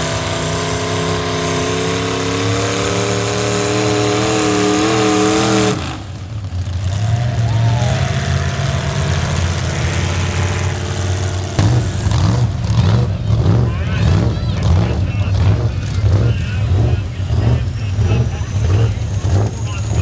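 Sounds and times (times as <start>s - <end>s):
truck engine running at low revs: 0.0s - 20.0s.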